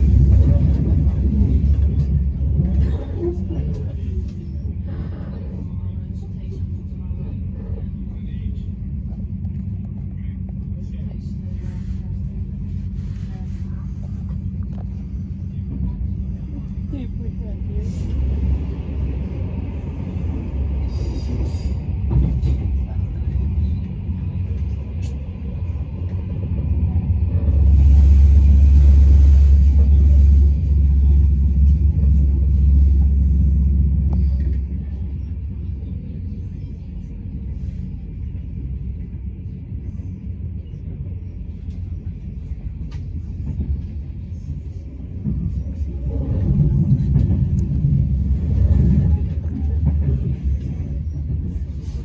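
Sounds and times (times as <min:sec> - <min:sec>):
train rumbling inside carriage: 0:00.0 - 0:52.0.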